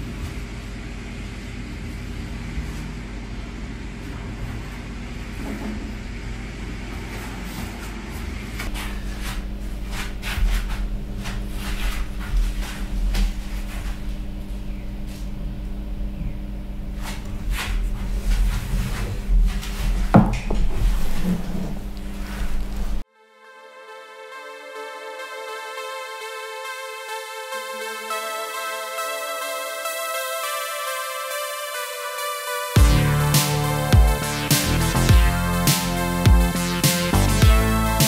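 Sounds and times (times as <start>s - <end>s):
room hum: 0.0s - 23.1s, 24.9s - 38.0s.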